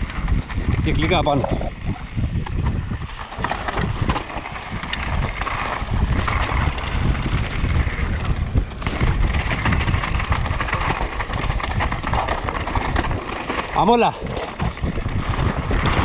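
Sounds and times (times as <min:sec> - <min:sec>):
bike clicks and knocks over bumps: 0:00.0 - 0:16.0
bike tyres rolling on dirt: 0:00.0 - 0:16.0
wind on microphone: 0:00.0 - 0:16.0.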